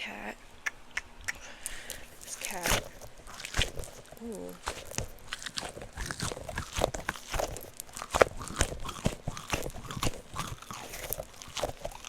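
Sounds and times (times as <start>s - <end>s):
squishy toy crackling and crunching: 1.6s - 12.0s.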